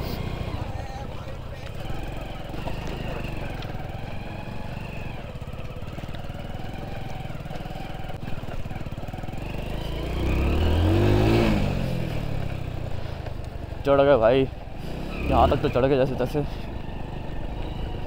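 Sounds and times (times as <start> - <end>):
motorcycle engine pulling uphill: 0.0 - 18.0
motorcycle engine revving: 0.0 - 18.0.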